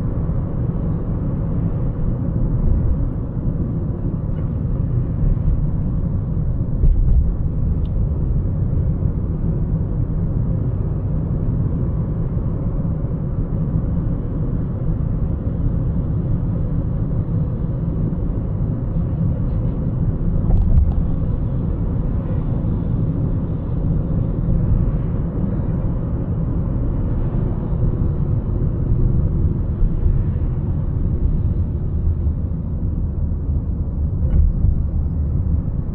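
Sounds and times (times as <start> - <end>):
car driving rumble: 0.0 - 35.9.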